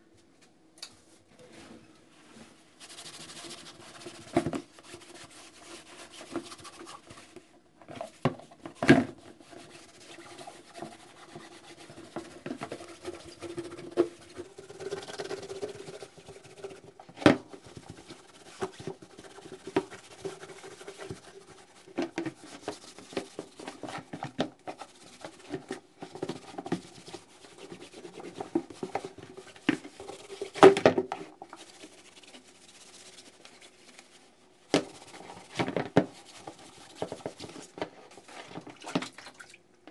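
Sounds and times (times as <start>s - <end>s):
wet cloth scrubbing plastic: 2.8s - 39.6s.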